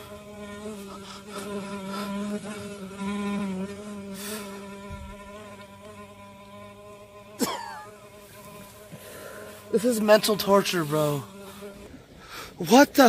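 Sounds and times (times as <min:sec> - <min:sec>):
flying insect buzzing: 0:00.0 - 0:12.4.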